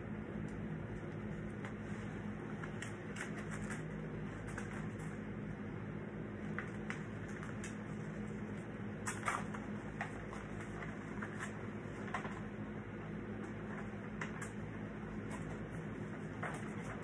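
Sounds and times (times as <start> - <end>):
paper poster crinkling: 1.0 - 5.2, 6.4 - 12.6, 13.5 - 17.0.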